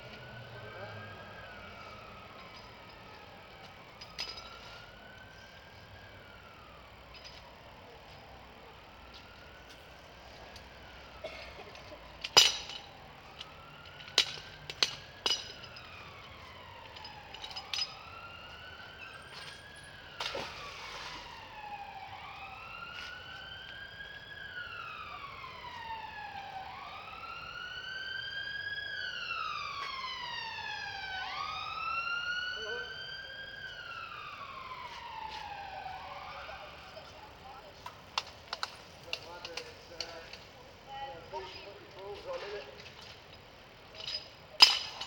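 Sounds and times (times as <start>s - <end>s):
emergency siren wailing: 0.0s - 45.0s.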